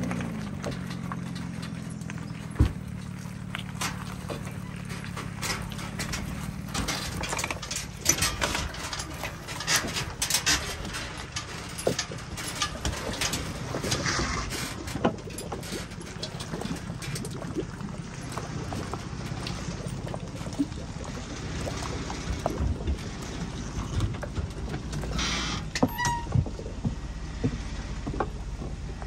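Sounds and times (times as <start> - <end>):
vehicle engine running low: 0.0 - 29.0
water splashing and lapping: 0.0 - 29.0.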